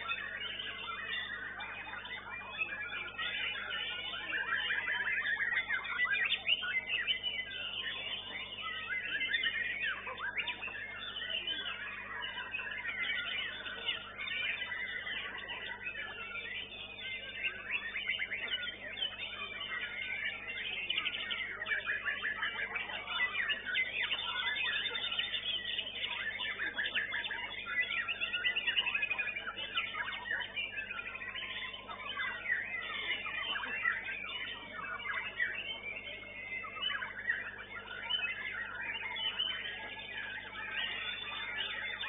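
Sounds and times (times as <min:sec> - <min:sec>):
songbirds whistling and trilling: 0:00.0 - 0:42.0.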